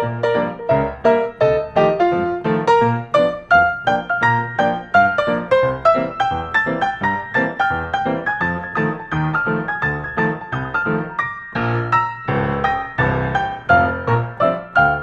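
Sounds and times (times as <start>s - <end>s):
bouncy piano notes: 0.0s - 15.0s.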